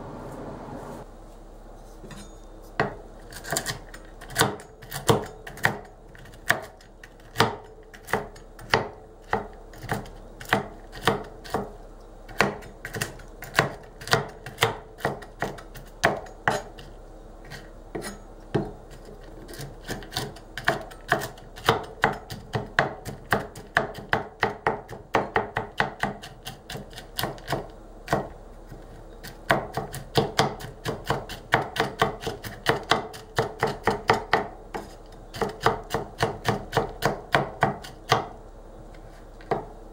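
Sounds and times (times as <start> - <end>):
knife chopping nuts in bowl: 2.8 - 38.4.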